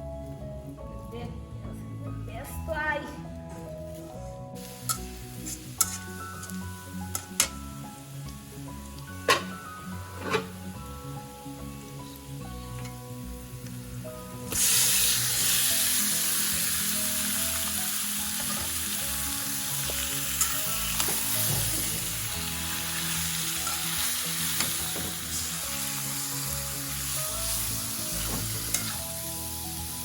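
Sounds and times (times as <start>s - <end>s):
food sizzling in hot oil: 4.5s - 30.0s.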